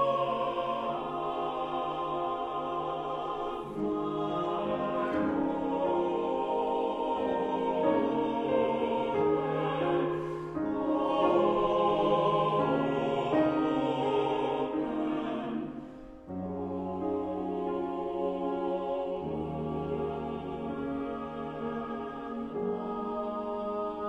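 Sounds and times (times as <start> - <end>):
choir singing sustained chords: 0.0 - 24.0.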